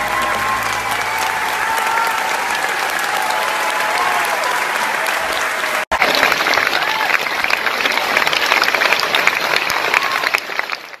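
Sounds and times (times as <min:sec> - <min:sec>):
audience applauding: 0:00.0 - 0:11.0
cheering voices: 0:00.0 - 0:11.0.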